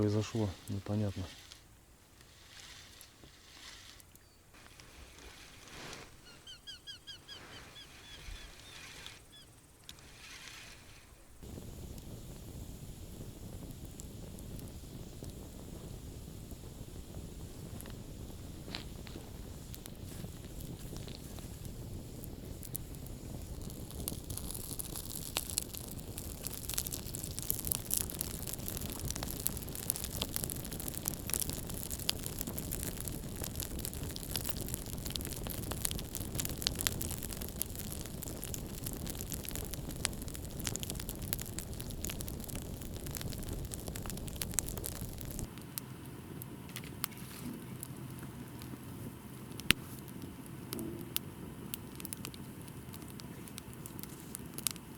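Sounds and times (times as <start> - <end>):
campfire crackling and popping: 8.6 - 54.9.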